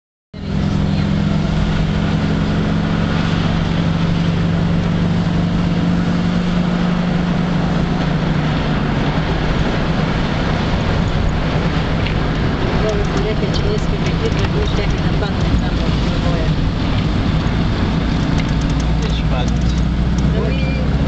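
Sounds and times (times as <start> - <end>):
tyre and road noise: 0.3 - 21.0
car engine hum: 0.4 - 21.0.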